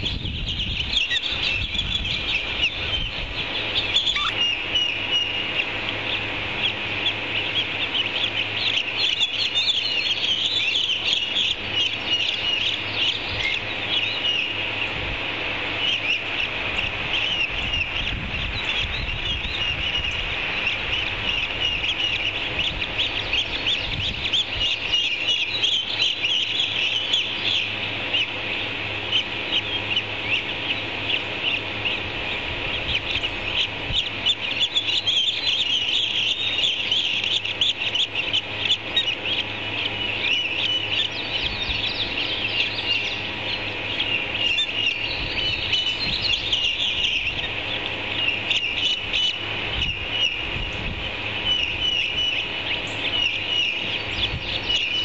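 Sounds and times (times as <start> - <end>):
birds chirping rapidly: 0.0 - 55.0.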